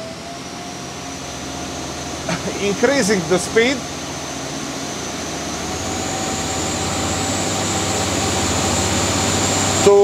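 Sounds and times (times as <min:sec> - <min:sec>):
boat engines throttling up: 0:00.1 - 0:10.0
thin high whine: 0:01.6 - 0:10.0.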